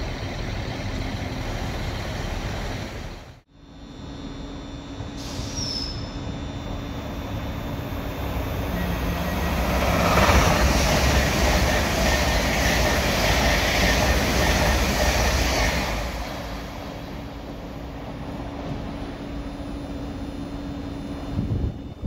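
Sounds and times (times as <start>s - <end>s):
high-speed train passing: 0.0s - 5.2s, 5.9s - 22.0s.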